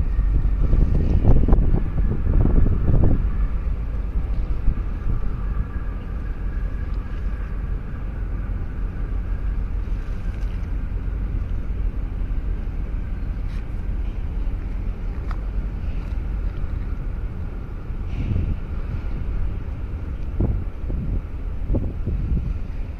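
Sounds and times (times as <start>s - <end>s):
faint machinery hum: 0.0s - 22.9s
low rumble of ships: 0.0s - 22.9s
wind buffeting microphone: 0.0s - 22.9s.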